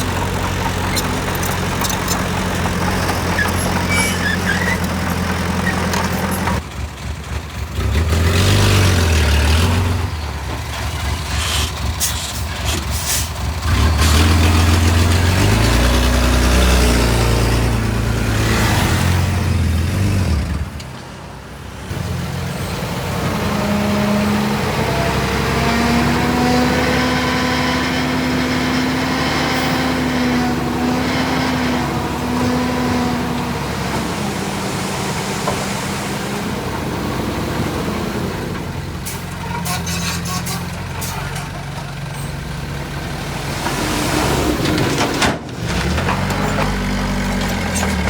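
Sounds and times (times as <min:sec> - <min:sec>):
heavy diesel engine revving: 0:00.0 - 0:20.8, 0:21.9 - 0:48.0.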